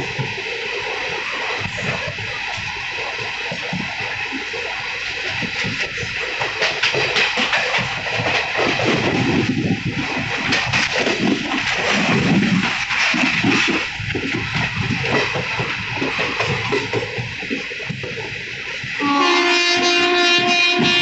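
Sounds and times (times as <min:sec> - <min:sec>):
passenger train running: 0:00.0 - 0:21.0
wheels clicking: 0:00.0 - 0:21.0.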